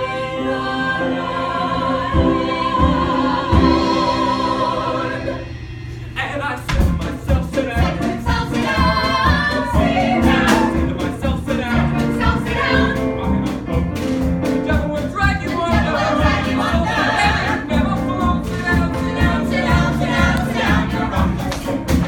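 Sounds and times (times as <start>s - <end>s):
group singing a show tune: 0.0s - 13.6s, 15.2s - 22.0s
band accompaniment: 0.6s - 22.0s.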